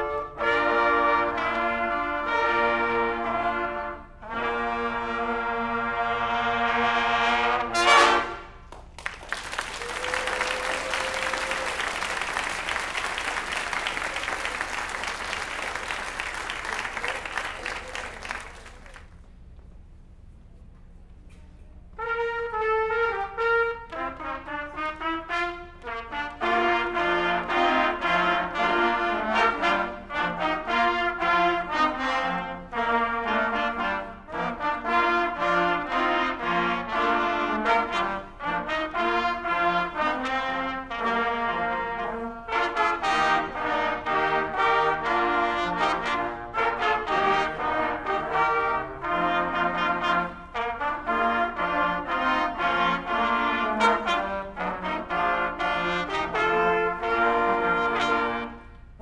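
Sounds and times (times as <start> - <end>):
trumpet ensemble playing: 0.0 - 8.7, 9.4 - 19.0, 21.9 - 59.0.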